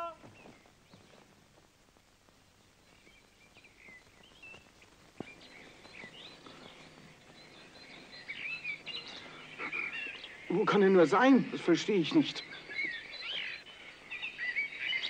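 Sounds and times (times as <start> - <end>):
birds chirping and twittering: 0.0 - 15.0.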